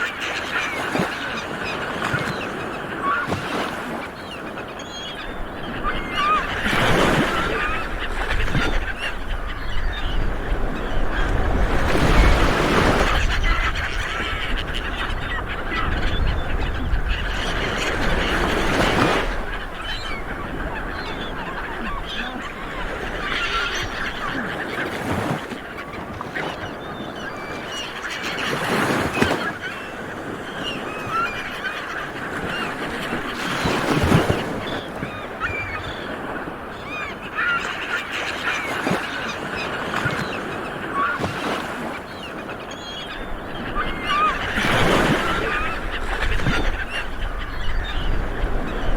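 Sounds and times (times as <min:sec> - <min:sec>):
seabirds calling: 0:00.0 - 0:48.9.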